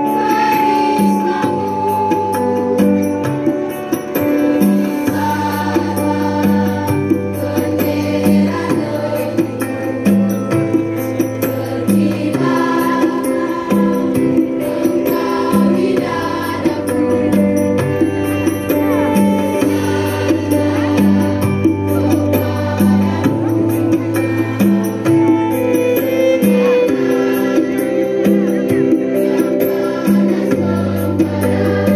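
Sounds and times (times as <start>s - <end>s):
choir singing in unison: 0.0s - 31.9s
instrumental accompaniment: 0.0s - 31.9s
steady percussive beat: 0.0s - 31.9s.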